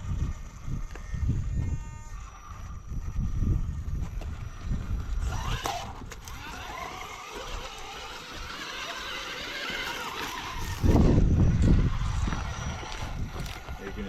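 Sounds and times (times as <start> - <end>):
off-road vehicle engine climbing: 0.0 - 14.0.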